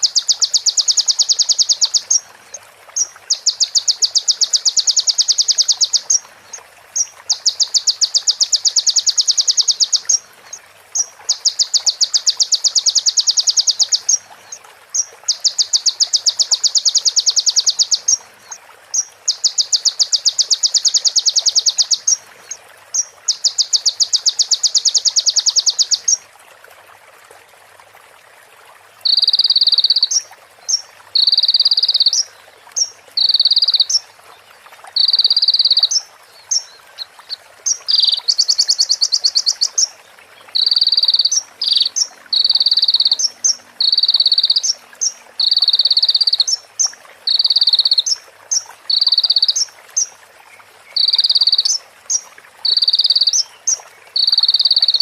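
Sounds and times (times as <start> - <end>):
bird ticking trills: 0.0 - 2.3, 3.0 - 6.3, 7.0 - 14.3, 14.9 - 26.2, 29.0 - 34.1, 34.9 - 50.1, 51.0 - 55.0.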